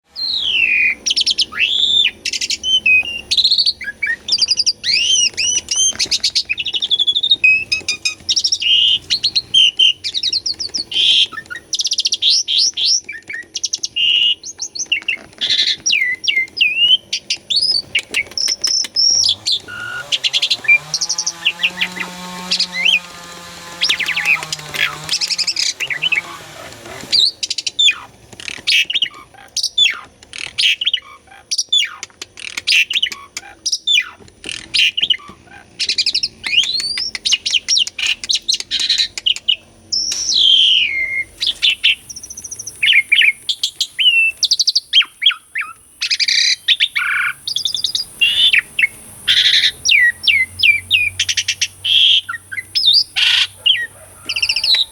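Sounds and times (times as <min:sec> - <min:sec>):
starling singing: 0:00.1 - 0:54.9.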